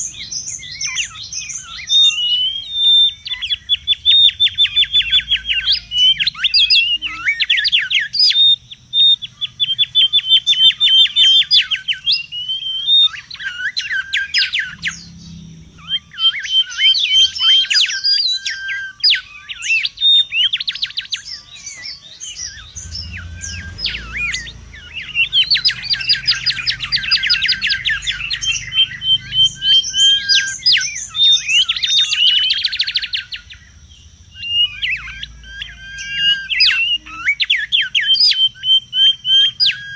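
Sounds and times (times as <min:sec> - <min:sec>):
bird whistling and trilling: 0:00.0 - 0:39.9.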